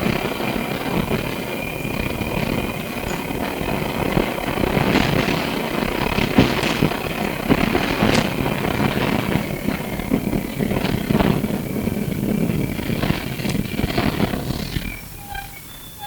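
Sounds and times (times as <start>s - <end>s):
faint high whine: 0.0s - 16.0s
tram interior rumble: 0.0s - 16.0s.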